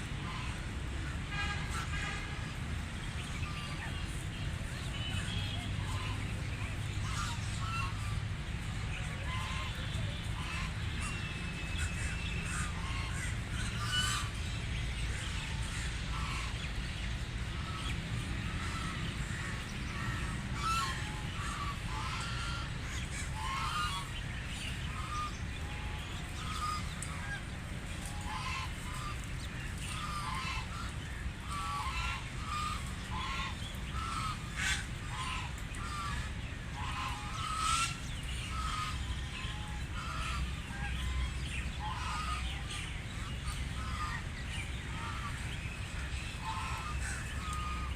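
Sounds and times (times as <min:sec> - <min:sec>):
ducks quacking: 0:00.0 - 0:47.9.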